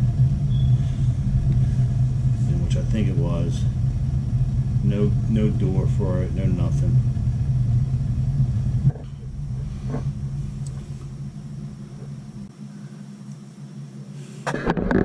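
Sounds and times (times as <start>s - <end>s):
water heater burner rumbling: 0.0s - 15.0s.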